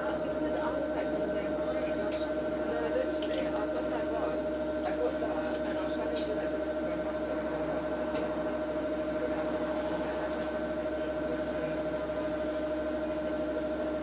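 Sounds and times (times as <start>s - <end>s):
bus engine rumble: 0.0s - 14.0s
cooling fan whine: 0.0s - 14.0s.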